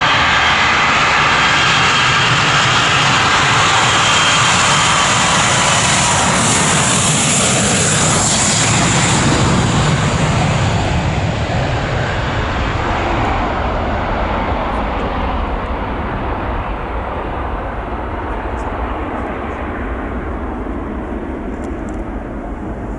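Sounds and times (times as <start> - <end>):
plane engines roaring at takeoff: 0.0 - 22.9.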